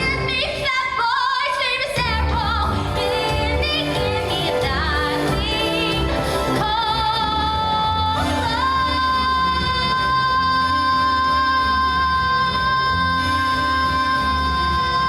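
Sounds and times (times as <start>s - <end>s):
instrumental accompaniment with bass: 2.0s - 15.0s.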